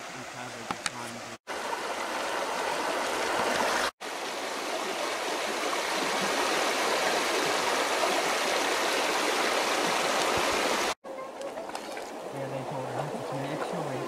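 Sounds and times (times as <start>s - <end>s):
creek running over stones: 0.0s - 14.0s.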